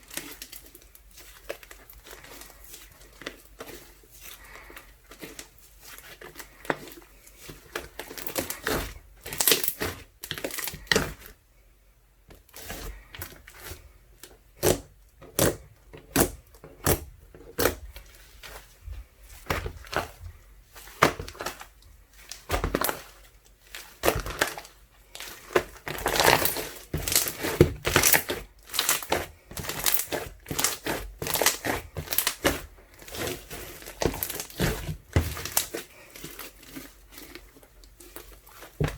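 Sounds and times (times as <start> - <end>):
slime being squished by hand: 0.0 - 11.3, 12.3 - 38.9.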